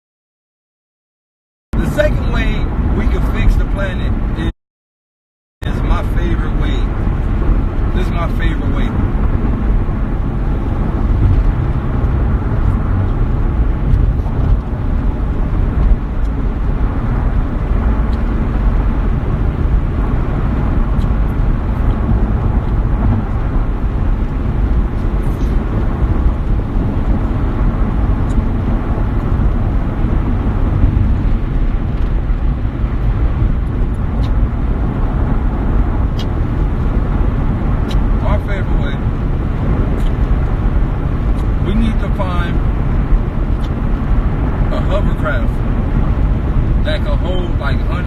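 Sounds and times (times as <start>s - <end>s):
low rumbling noise: 1.8s - 4.5s, 5.6s - 48.0s.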